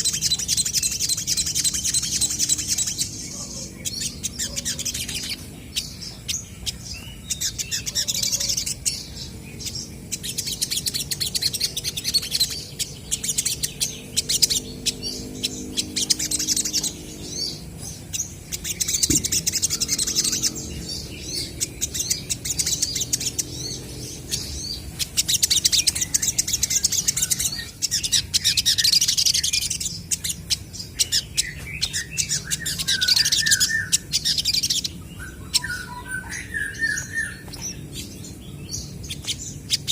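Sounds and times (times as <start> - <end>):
birds chirping high-pitched: 0.0 - 39.9.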